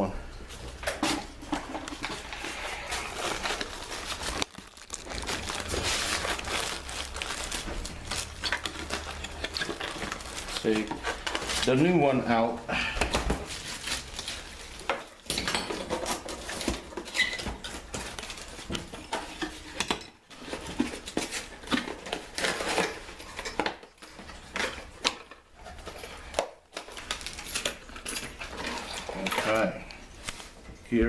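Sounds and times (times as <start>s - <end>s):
rustling: 0.4s - 30.8s.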